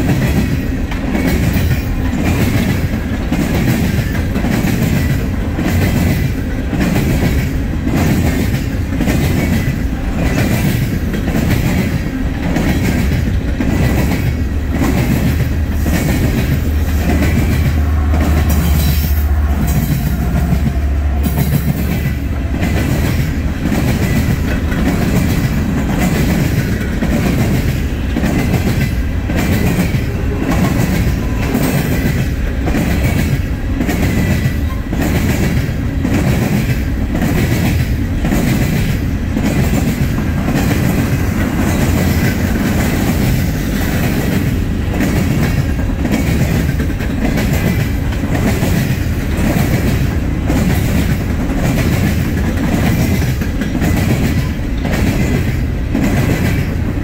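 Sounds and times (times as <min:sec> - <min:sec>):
diesel locomotive engine drone: 0:00.0 - 0:57.0
train wheels clickety-clack: 0:00.0 - 0:57.0.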